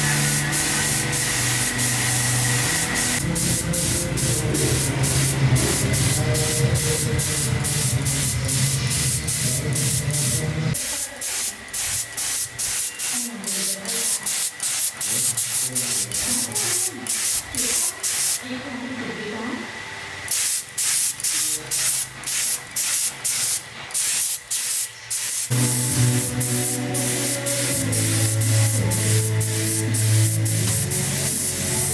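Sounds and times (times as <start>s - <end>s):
paint spraying in hissing bursts: 0.0s - 18.4s, 20.3s - 31.9s.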